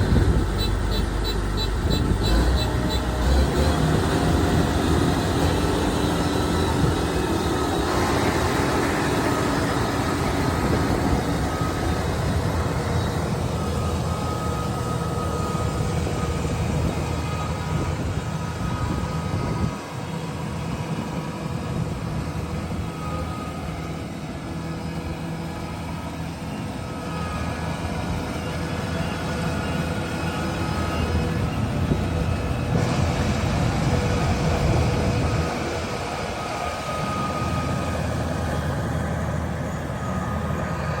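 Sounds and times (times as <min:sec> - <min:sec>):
combine harvester engine hum: 0:00.0 - 0:41.0.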